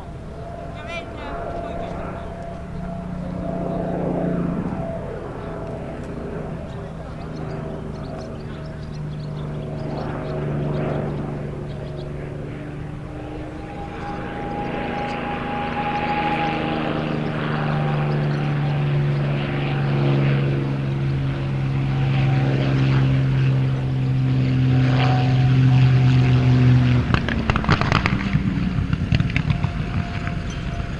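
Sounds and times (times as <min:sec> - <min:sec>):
propeller aircraft engine droning: 0:00.0 - 0:30.9.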